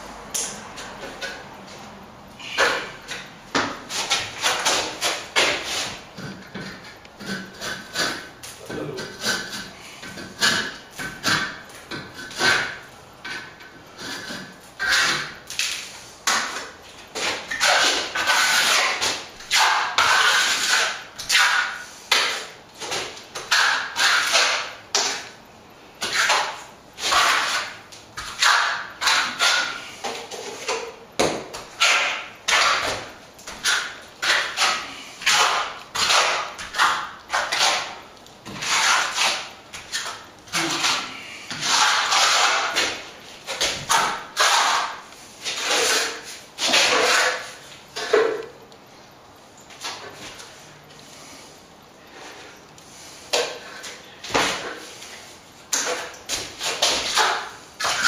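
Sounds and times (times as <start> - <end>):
trowel scraping wet plaster: 2.4 - 8.4, 9.0 - 25.3, 26.0 - 48.5, 53.3 - 58.0.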